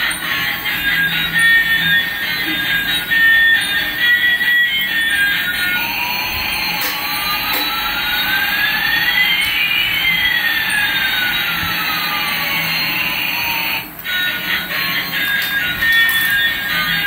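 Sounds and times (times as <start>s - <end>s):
rising and falling whines: 0.0s - 13.9s.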